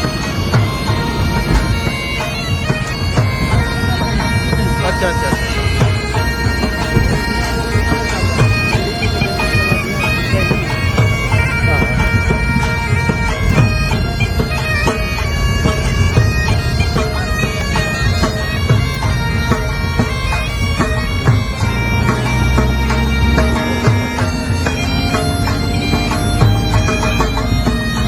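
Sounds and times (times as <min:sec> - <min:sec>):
reedy wind instrument music: 0:00.0 - 0:28.0
short knocks: 0:00.0 - 0:28.0
steady held drone: 0:00.0 - 0:28.0.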